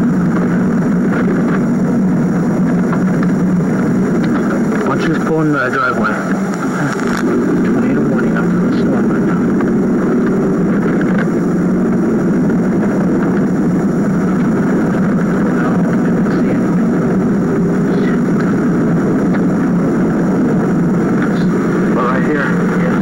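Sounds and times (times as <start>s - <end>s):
car engine and tyres rumble: 0.0s - 23.0s.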